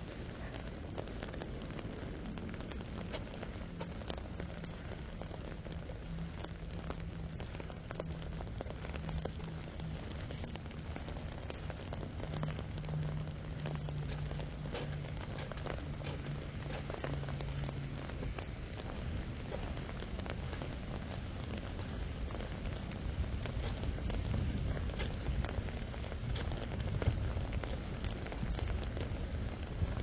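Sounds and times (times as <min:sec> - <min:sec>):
low steady hum: 0:00.0 - 0:30.0
rain drops on an umbrella: 0:00.0 - 0:30.0.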